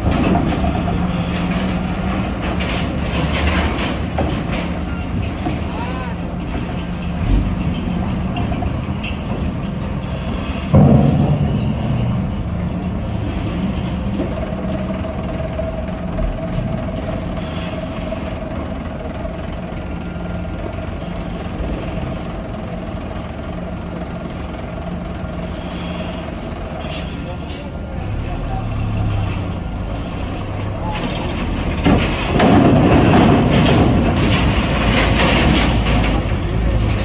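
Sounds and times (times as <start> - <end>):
heavy truck engine running: 0.0 - 37.0.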